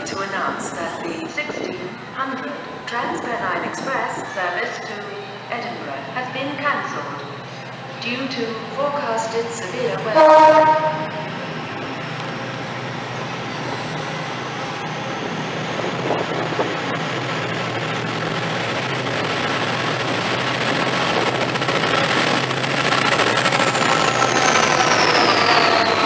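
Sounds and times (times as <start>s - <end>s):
train engine hum: 0.0s - 26.0s
train wheel rumble: 0.0s - 26.0s.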